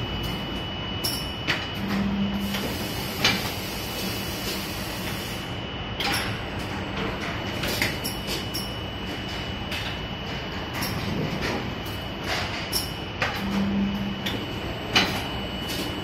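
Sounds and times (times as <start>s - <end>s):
machine hum and whine: 0.0s - 16.0s.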